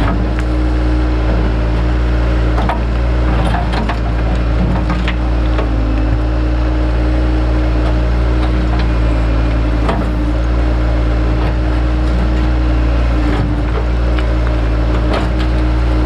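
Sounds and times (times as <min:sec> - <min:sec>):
digging machine diesel engine: 0:00.0 - 0:16.0.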